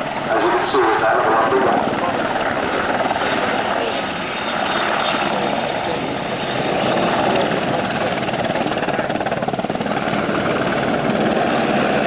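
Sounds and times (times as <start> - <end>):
helicopter flying: 0.0 - 12.0.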